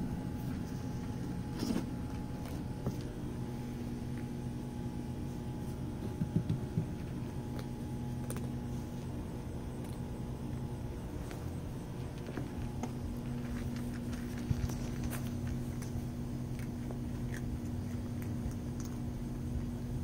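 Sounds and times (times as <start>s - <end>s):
cats crunching dry kibble: 0.0s - 20.0s
low mechanical hum: 0.0s - 20.0s.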